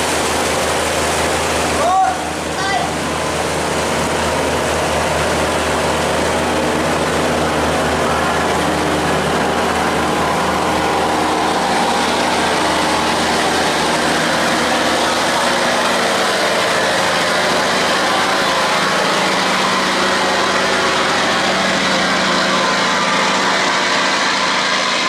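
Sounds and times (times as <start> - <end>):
barge engine drone: 0.0 - 25.0
steady rushing noise: 0.0 - 25.0.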